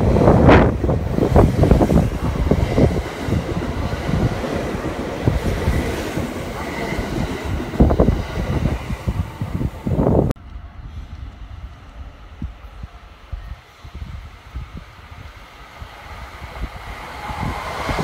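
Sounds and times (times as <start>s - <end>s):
train wheels rumbling and clattering: 0.0s - 18.0s.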